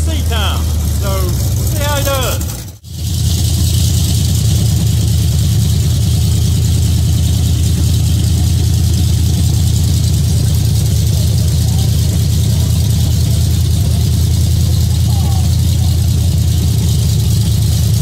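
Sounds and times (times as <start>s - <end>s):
race car engine idling: 0.0s - 18.0s.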